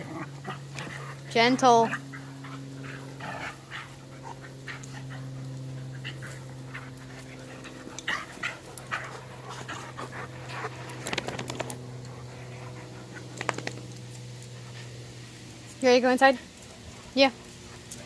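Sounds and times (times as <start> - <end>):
dog play noises: 0.0 - 18.0
dogs panting: 0.0 - 18.0
steady low hum: 0.0 - 18.0
dogs scuffling: 0.2 - 18.0.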